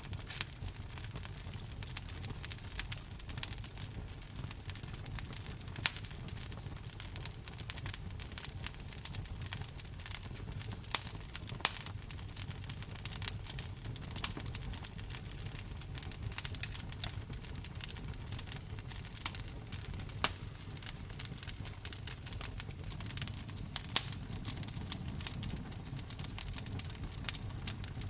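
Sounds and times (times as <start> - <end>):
fire pops: 0.0 - 28.0
wood fire crackling: 0.0 - 28.0.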